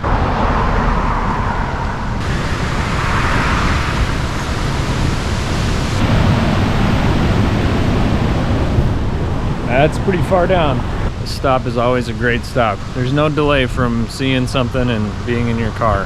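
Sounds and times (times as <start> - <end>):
river rushing through rock gorge: 2.2 - 15.6.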